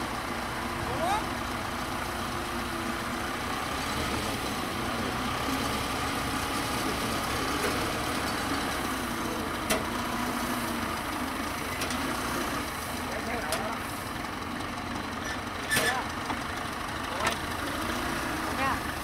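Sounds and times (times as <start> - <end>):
diesel engine running at low speed: 0.0 - 19.0.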